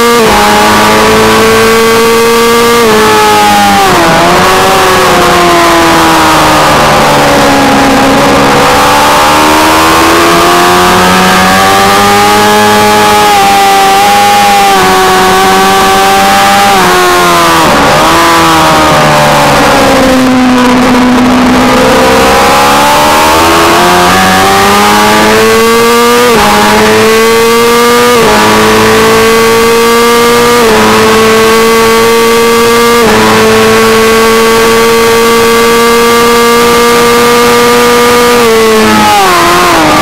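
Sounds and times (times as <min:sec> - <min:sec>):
race bike engine revving: 0:00.0 - 0:40.0.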